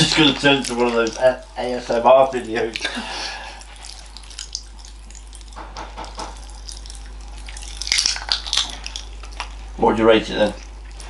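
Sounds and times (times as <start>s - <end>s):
popping candy crackling: 0.0s - 10.6s.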